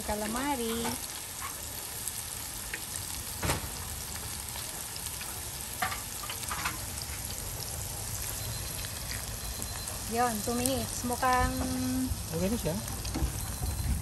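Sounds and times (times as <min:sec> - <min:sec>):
food sizzling in deep fryer: 0:00.0 - 0:14.0
oil popping and crackling: 0:00.0 - 0:14.0.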